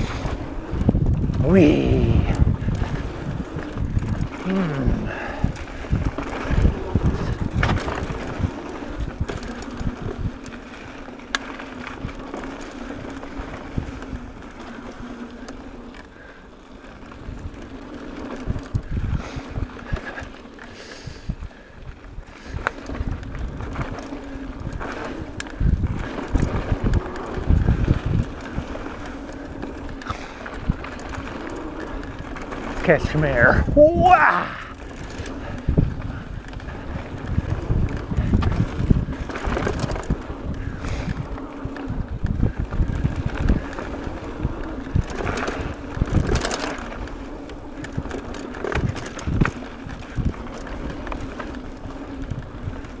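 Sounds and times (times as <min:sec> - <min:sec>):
bike thumping and rattling: 0:00.0 - 0:33.8, 0:34.6 - 0:53.0
bike tyres humming on dirt: 0:00.0 - 0:53.0.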